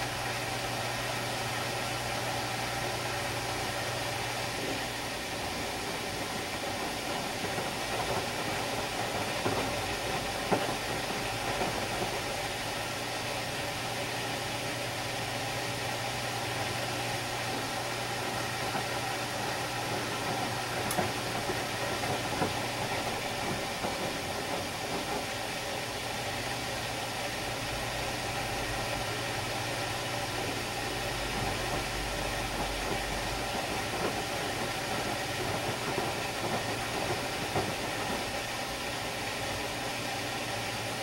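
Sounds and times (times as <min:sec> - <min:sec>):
deep washing machine rumble: 0:00.0 - 0:41.0
washing machine humming: 0:00.0 - 0:41.0.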